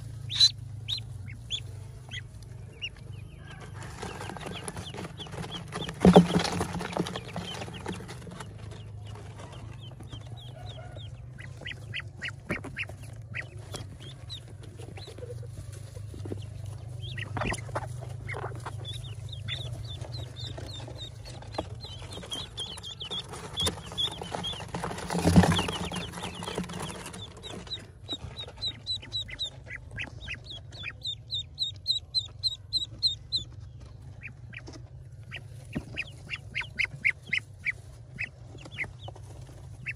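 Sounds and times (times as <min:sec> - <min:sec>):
ducklings peeping: 0:00.0 - 0:39.9
steady low hum: 0:00.0 - 0:39.9.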